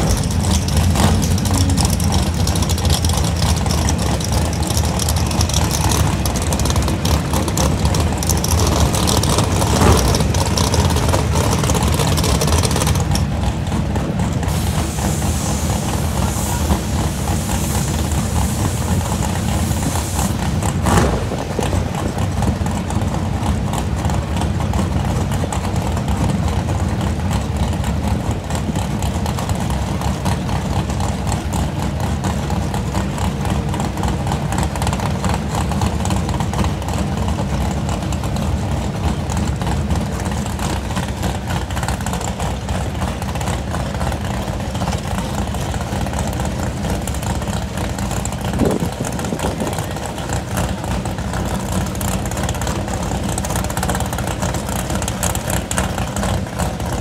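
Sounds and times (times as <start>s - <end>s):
drag car engines idling: 0.0s - 57.0s.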